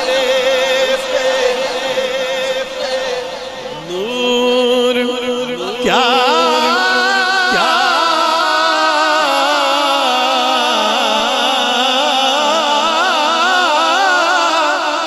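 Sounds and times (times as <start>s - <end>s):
man singing long ornamented note: 0.0s - 15.0s.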